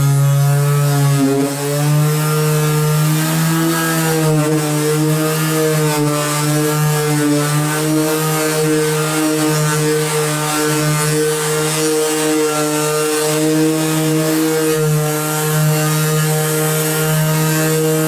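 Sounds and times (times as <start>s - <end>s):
orbital sander humming: 0.0s - 18.0s.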